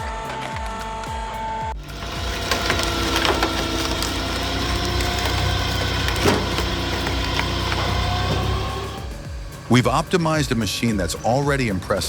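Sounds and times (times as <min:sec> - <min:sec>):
background music: 0:00.0 - 0:12.0
log splitter machine running: 0:01.8 - 0:12.0
wood cracking and splintering: 0:01.8 - 0:12.0.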